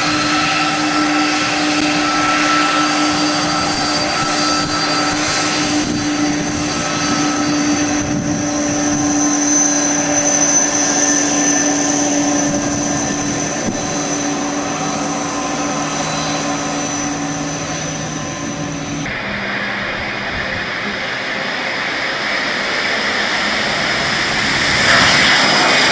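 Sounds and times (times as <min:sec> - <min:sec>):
aircraft turbine engines running: 0:00.0 - 0:25.9.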